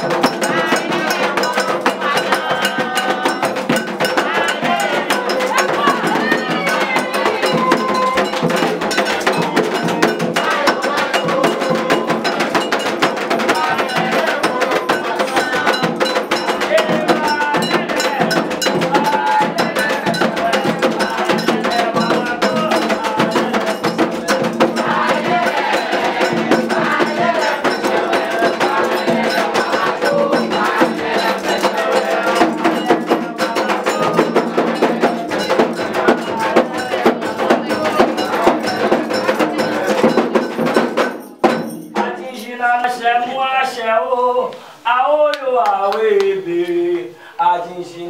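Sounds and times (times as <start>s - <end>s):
voices chanting: 0.0s - 41.0s
metal bell struck rhythmically: 0.0s - 43.0s
percussion: 0.0s - 47.8s.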